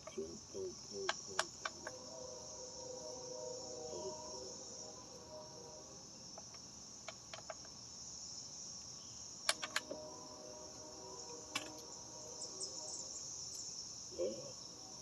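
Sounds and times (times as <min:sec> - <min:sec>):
high-pitched insect chirring: 0:00.0 - 0:15.0.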